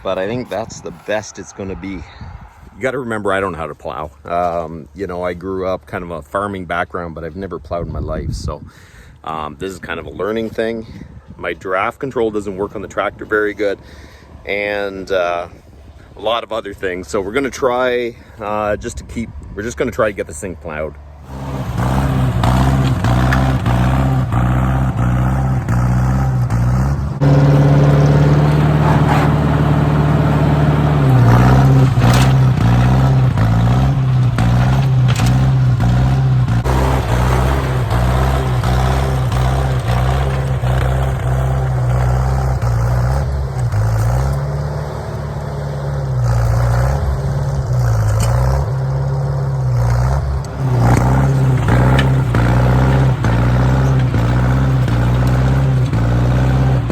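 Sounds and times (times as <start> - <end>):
tractor engine under load: 0.0 - 8.6, 9.2 - 56.9.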